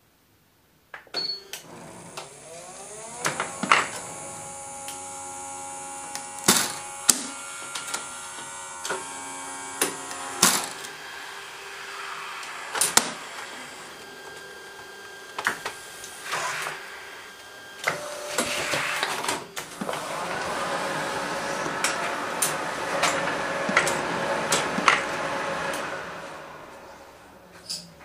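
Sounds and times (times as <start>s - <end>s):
motors whirring: 1.6s - 27.7s.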